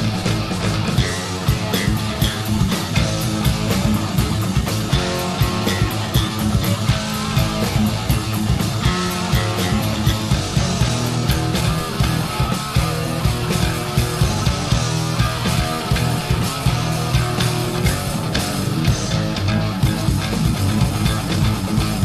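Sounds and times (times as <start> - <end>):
hard rock band playing: 0.0 - 22.0.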